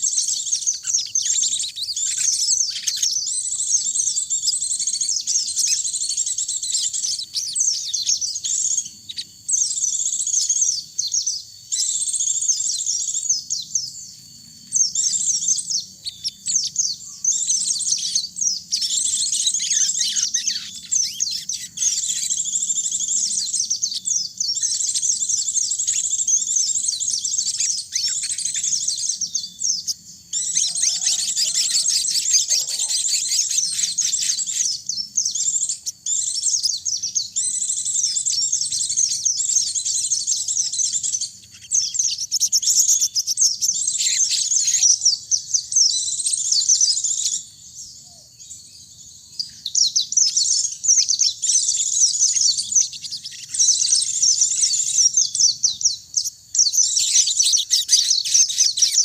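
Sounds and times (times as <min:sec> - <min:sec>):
songbirds twittering: 0:00.0 - 0:59.0.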